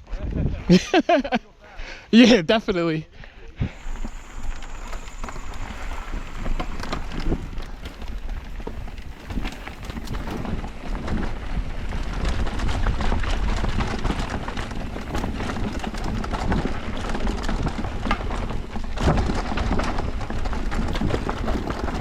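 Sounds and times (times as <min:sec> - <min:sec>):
bike knocking and rattling: 0:03.7 - 0:22.0
tyres rumbling over dirt and rock: 0:03.7 - 0:22.0.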